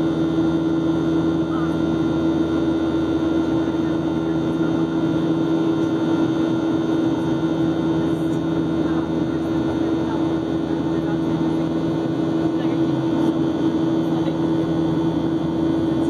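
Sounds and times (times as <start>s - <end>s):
constant low hum: 0.0s - 16.0s
jet engines droning: 0.0s - 16.0s.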